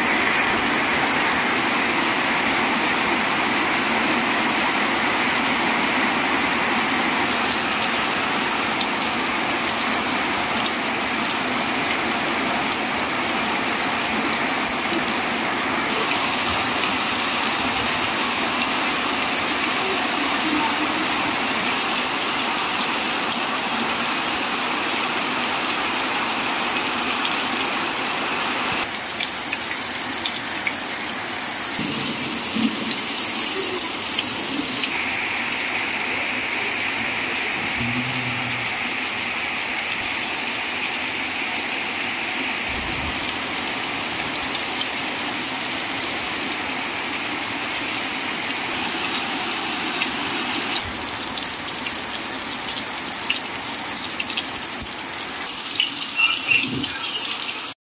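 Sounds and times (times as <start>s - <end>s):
heavy rain pouring: 0.0s - 57.8s.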